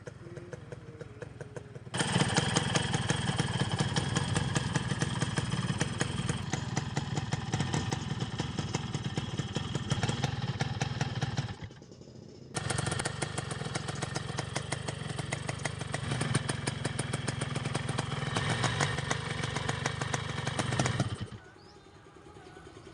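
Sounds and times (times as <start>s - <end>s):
two-stroke engine idling: 0.0s - 22.9s.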